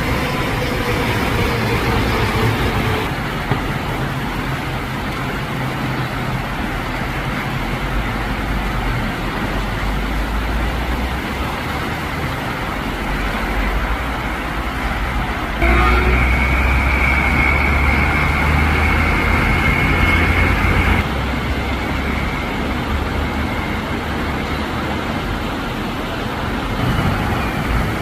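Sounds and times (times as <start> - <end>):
wind and rain rushing: 0.0 - 28.0.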